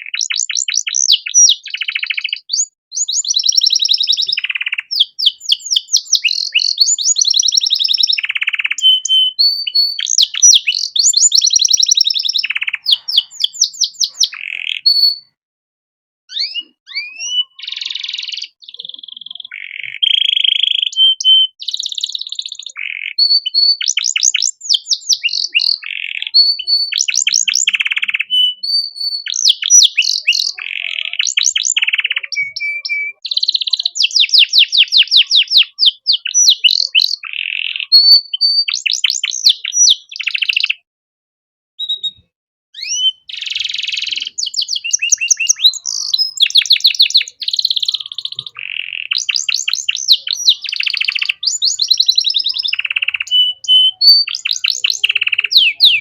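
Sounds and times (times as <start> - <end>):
canary singing trills: 0.0 - 15.4, 16.3 - 40.8, 41.8 - 56.0.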